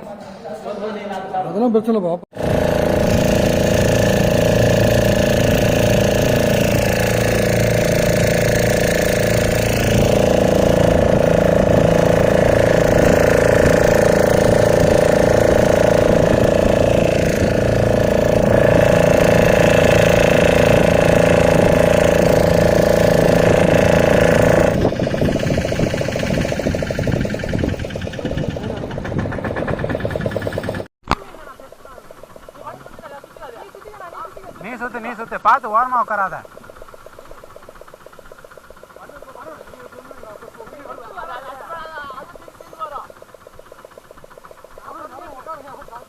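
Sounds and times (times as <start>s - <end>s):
boat engine droning: 2.3s - 46.0s.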